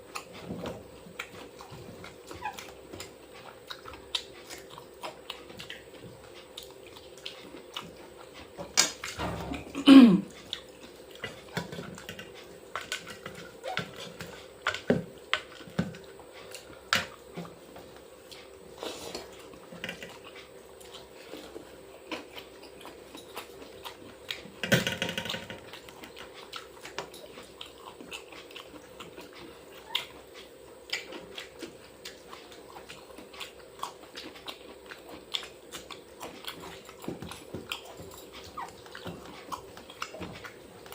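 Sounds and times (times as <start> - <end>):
chewing and lip-smacking: 0.0 - 9.3, 10.3 - 40.9.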